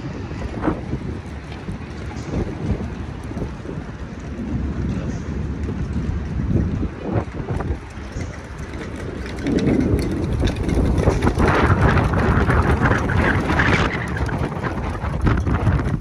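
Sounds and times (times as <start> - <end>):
rain: 0.0 - 16.0
wind buffeting microphone: 0.0 - 16.0.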